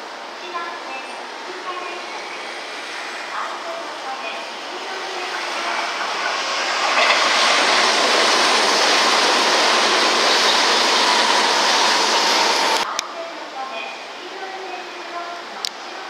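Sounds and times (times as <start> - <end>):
train wheels rushing on rail: 0.0 - 12.9.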